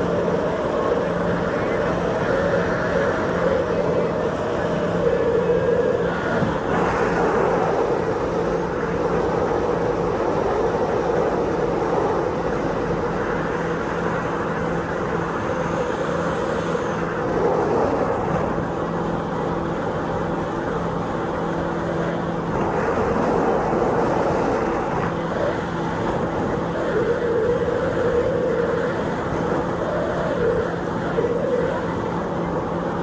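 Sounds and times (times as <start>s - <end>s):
powerboat engines running: 0.0s - 33.0s
rushing water noise: 0.0s - 33.0s.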